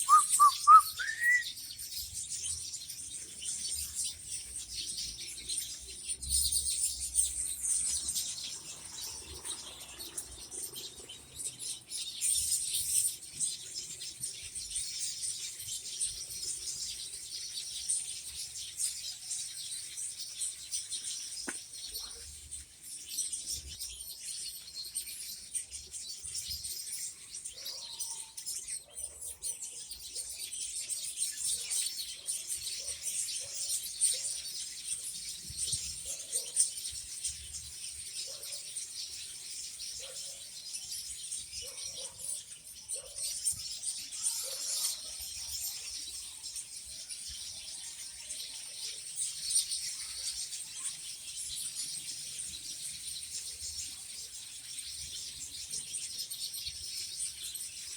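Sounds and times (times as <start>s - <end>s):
small songbirds chirping: 0.0s - 57.9s.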